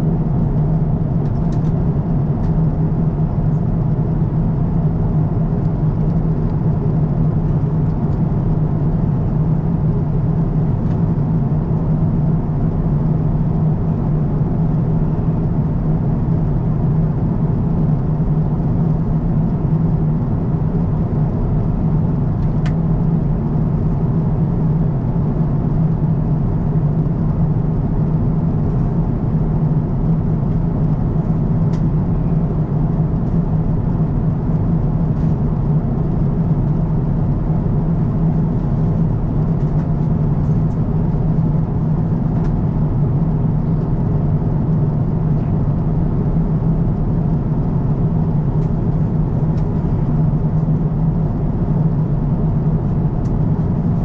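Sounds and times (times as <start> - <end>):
airliner cabin noise: 0.0 - 54.0
constant low hum: 0.0 - 54.0.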